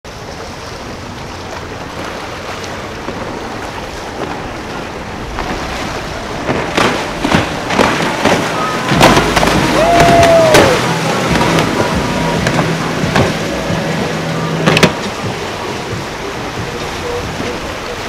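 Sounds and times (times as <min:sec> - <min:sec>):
boats running fast: 0:00.0 - 0:18.0
rush of wind and water: 0:00.0 - 0:18.0
spray splashes and hull slaps: 0:00.7 - 0:18.0.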